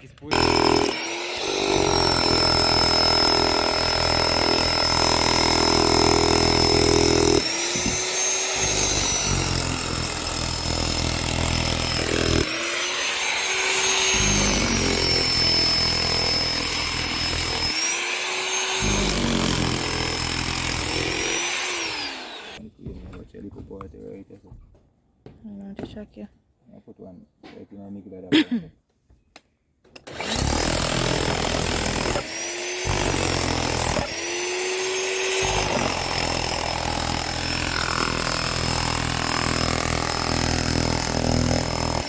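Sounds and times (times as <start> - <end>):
power tool motor whine: 0.3 - 22.6, 30.0 - 42.0.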